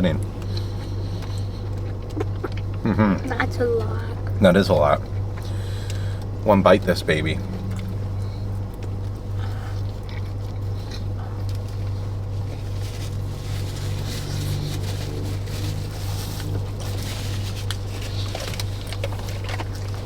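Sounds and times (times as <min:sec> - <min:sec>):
clicks and rustles of eating: 0:00.0 - 0:03.0, 0:04.2 - 0:06.9, 0:07.7 - 0:20.0
car engine idling: 0:00.0 - 0:20.0.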